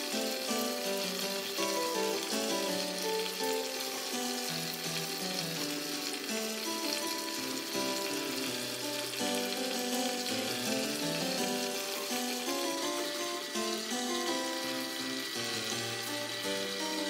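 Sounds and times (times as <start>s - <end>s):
fountain water splashing: 0.0s - 17.0s
slow background music: 0.0s - 17.0s.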